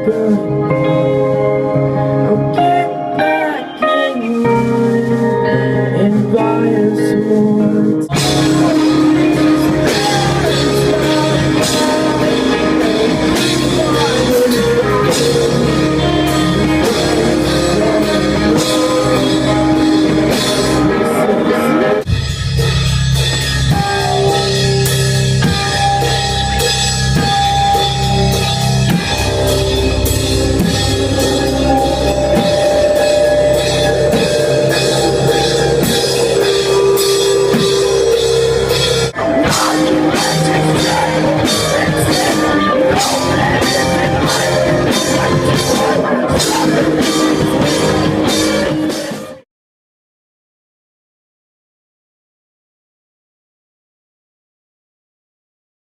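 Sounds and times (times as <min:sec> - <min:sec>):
rock band playing live: 0:00.0 - 0:49.4.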